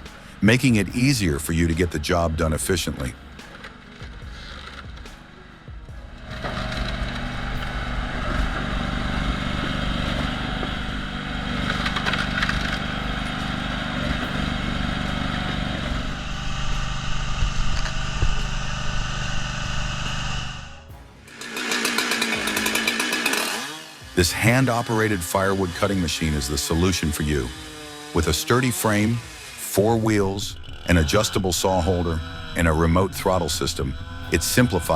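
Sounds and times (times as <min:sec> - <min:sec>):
machine engine running under load: 0:03.2 - 0:34.9.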